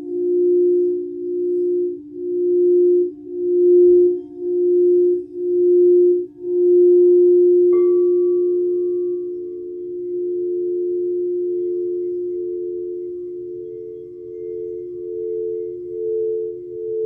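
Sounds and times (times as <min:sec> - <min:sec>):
singing bowl rim hum: 0:00.0 - 0:17.0
singing bowl struck ringing: 0:00.0 - 0:17.0.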